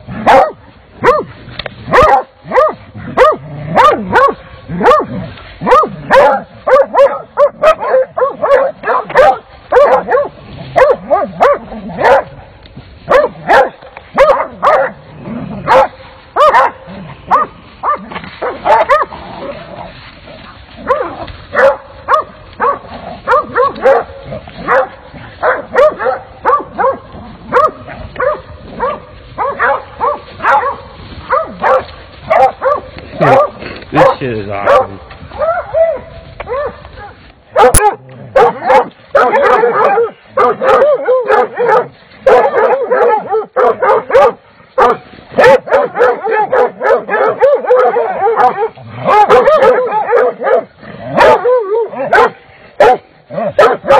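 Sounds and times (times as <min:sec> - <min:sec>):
hounds barking and baying: 0:00.0 - 0:53.9.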